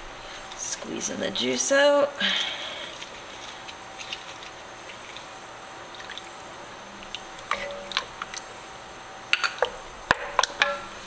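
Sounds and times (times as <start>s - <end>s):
low steady hiss: 0.0s - 11.0s.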